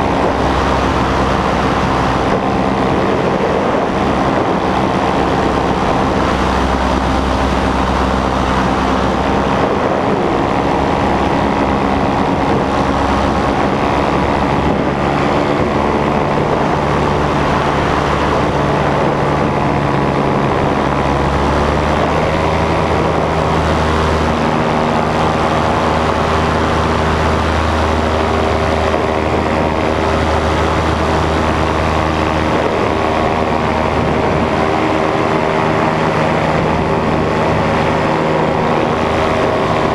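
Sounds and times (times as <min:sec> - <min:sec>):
paramotor engine and propeller: 0:00.0 - 0:39.9
wind rushing: 0:00.0 - 0:39.9.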